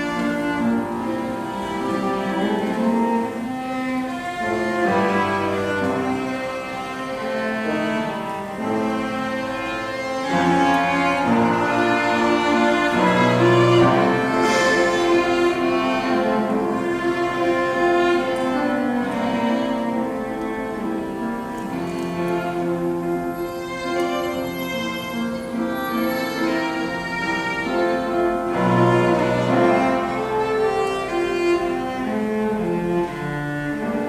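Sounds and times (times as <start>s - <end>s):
low cello line: 0.0s - 34.0s
piano trio playing: 0.0s - 34.0s.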